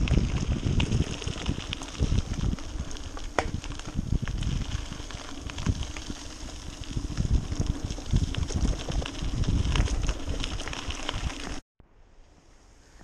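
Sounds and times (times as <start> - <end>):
bike clicks and rattles: 0.0 - 11.6
bike tyres crunching on gravel: 0.0 - 11.6
wind buffeting microphone: 0.0 - 11.6.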